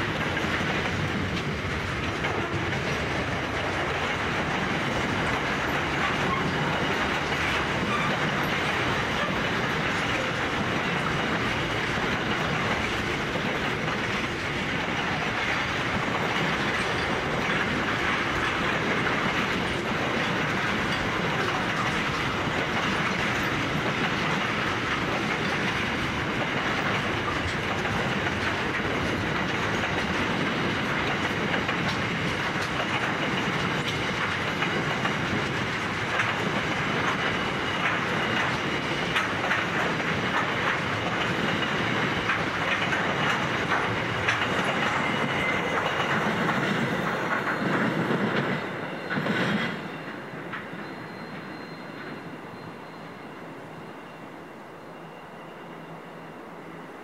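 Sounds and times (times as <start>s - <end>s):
wheels clacking over rail joints: 0.0s - 51.8s
freight train wheels rumbling: 0.0s - 57.0s.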